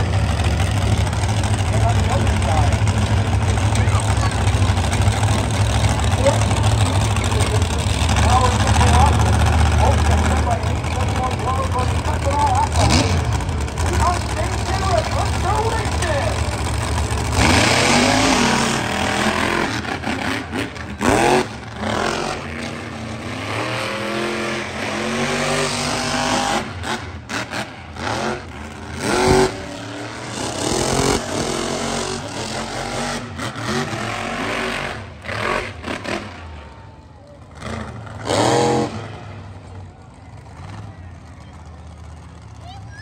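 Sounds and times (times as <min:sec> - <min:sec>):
truck engine revving hard: 0:00.0 - 0:36.7, 0:37.5 - 0:40.9.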